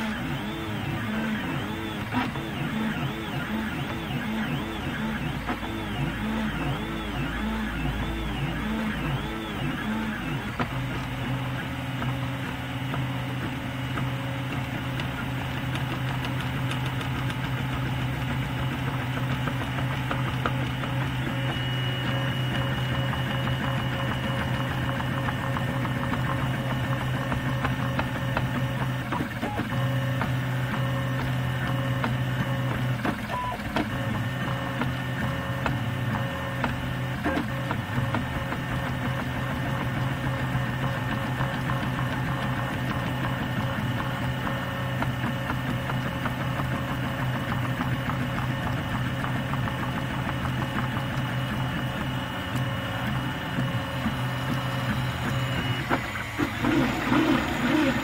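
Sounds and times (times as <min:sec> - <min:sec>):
stepper motor whine: 0:00.0 - 0:58.0.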